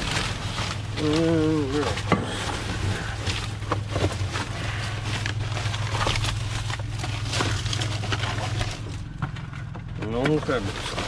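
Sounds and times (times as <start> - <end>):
plastic bags crinkling: 0.0 - 9.2, 10.1 - 11.0
steady low hum: 0.0 - 11.0.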